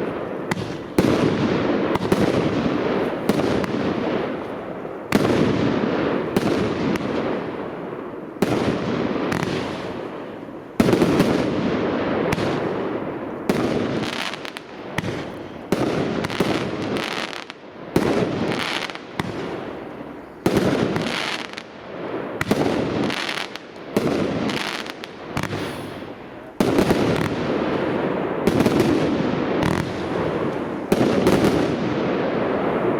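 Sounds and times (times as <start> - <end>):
firework barrage bangs: 0.0 - 4.5, 5.1 - 7.5, 8.4 - 19.8, 20.4 - 32.9.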